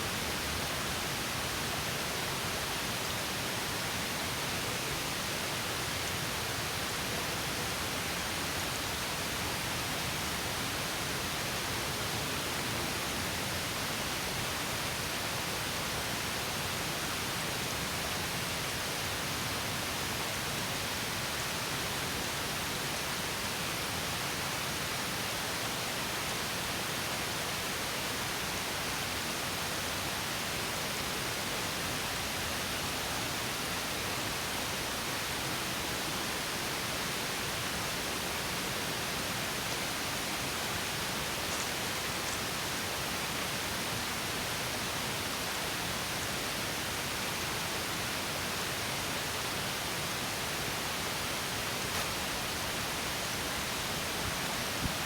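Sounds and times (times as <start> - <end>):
stream rushing over small waterfall: 0.0 - 55.0.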